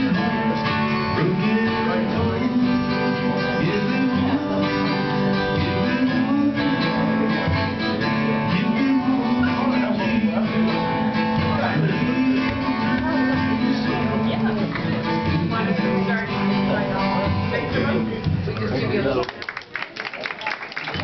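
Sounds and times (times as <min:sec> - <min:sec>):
acoustic guitar strumming: 0:00.0 - 0:19.2.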